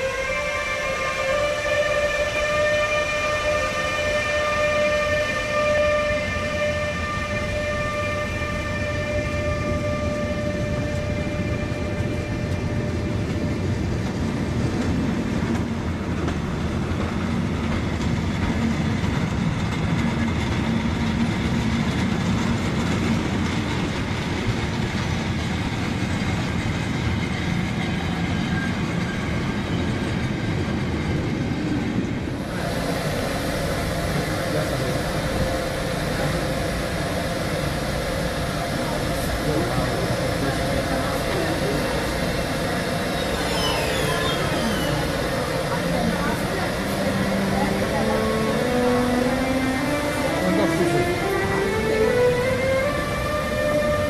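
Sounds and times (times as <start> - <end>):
electric locomotive whine: 0.0 - 54.0
train wagons rumbling and clattering: 0.0 - 54.0.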